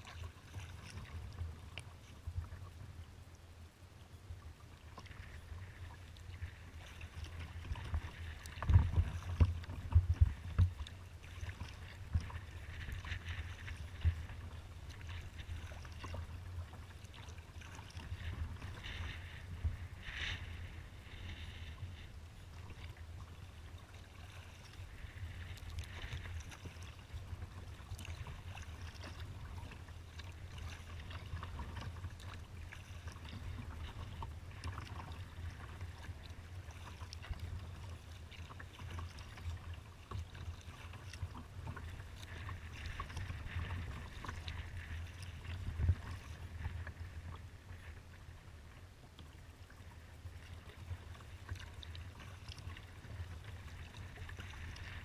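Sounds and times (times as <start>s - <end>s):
water splashing against kayak hull: 0.0s - 2.9s, 4.6s - 55.0s
wind rumbling on microphone: 4.2s - 55.0s.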